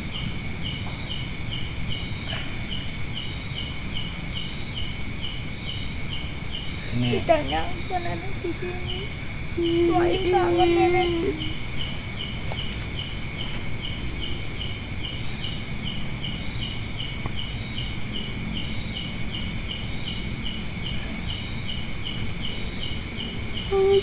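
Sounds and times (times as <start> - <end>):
cricket chirping: 0.0 - 24.0
high insect drone: 0.0 - 24.0.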